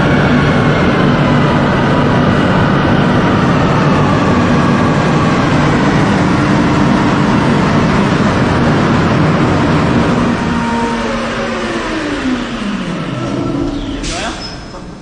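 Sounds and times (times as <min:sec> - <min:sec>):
car engine at high speed: 0:00.0 - 0:13.6.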